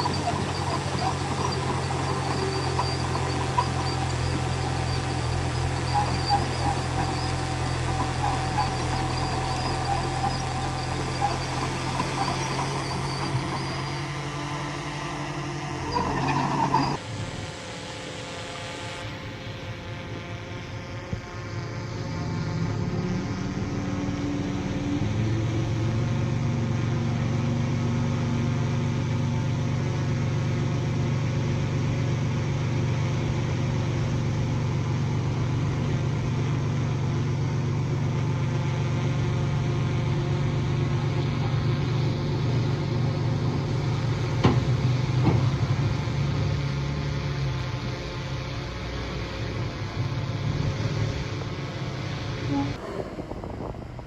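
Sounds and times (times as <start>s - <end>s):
bulldozer diesel engine running: 0.0s - 17.0s, 22.0s - 54.0s.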